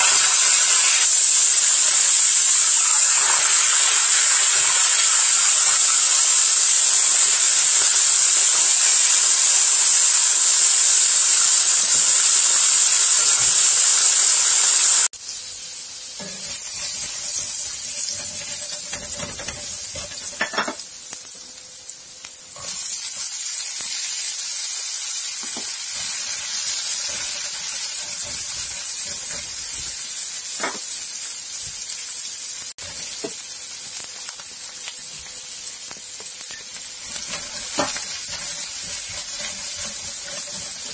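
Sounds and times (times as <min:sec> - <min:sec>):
fish frying in oil: 0:00.0 - 0:40.9
ginger sizzling in oil: 0:00.0 - 0:40.9.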